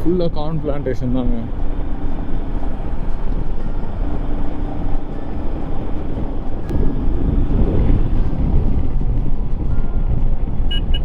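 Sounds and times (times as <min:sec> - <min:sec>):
wind buffeting microphone: 0:01.6 - 0:11.0.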